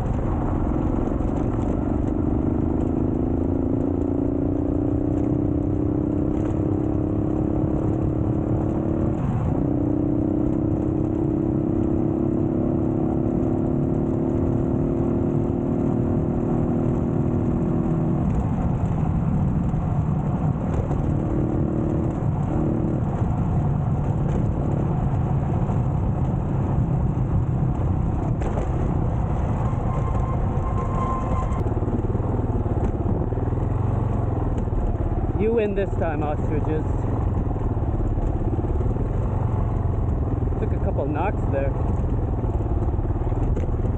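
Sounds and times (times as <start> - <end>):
motorcycle engine running hard: 0.0 - 43.9.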